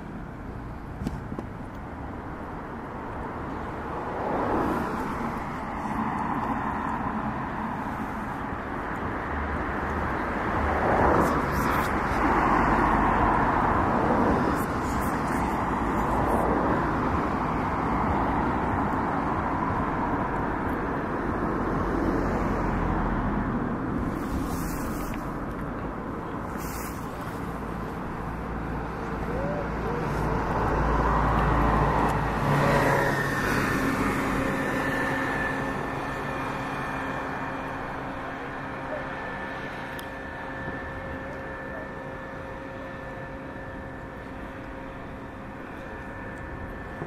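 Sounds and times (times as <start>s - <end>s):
cars going by: 0.0s - 47.0s.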